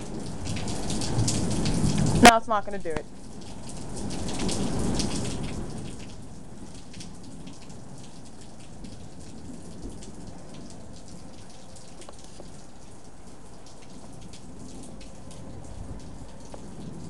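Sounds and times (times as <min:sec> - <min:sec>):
low rumble of thunder: 0:00.0 - 0:02.4, 0:03.0 - 0:17.0
steady rain falling: 0:00.0 - 0:17.0.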